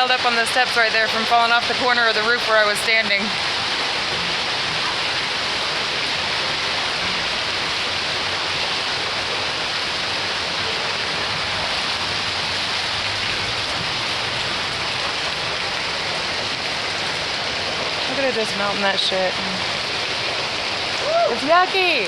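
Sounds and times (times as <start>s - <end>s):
heavy rain and hail falling: 0.0s - 22.0s.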